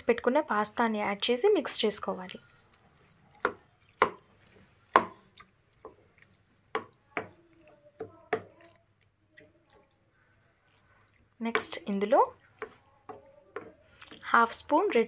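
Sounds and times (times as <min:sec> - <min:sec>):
sauce squelching: 0:01.9 - 0:14.7.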